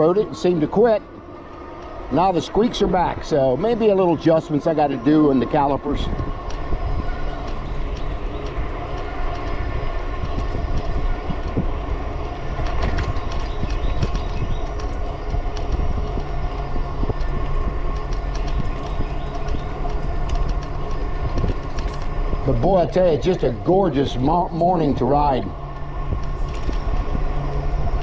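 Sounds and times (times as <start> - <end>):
electric motor hum: 0.0 - 28.0
tyres on pavement: 0.0 - 28.0
small clicks and rattles: 4.6 - 28.0
wind on microphone: 5.0 - 28.0.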